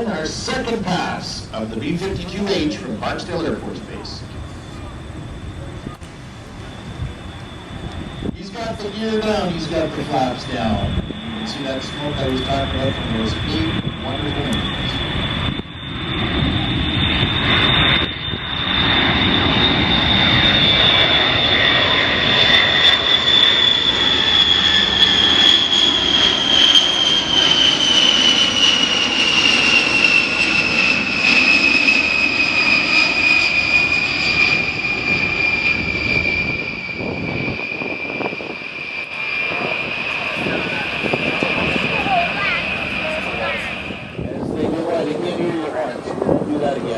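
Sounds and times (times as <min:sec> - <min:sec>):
jet bomber engines roaring past: 0:00.0 - 0:46.9.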